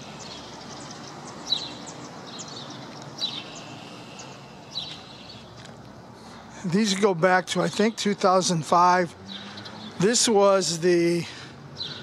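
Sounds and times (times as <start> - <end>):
low street ambience: 0.0 - 12.0
small birds chirping: 0.0 - 12.0.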